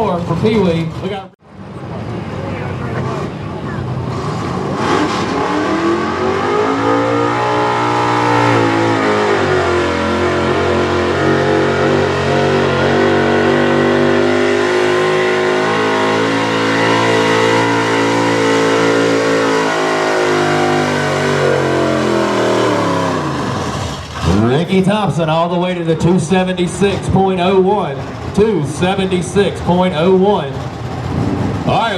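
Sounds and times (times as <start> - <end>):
truck engine at full throttle: 0.0 - 31.9.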